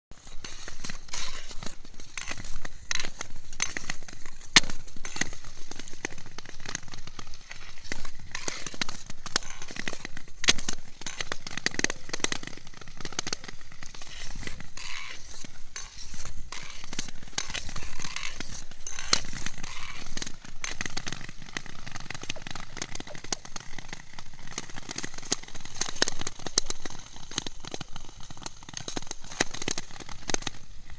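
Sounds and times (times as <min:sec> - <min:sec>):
skate blades gliding on ice: 0:00.2 - 0:30.9
thin ice crackling and cracking: 0:00.2 - 0:30.9.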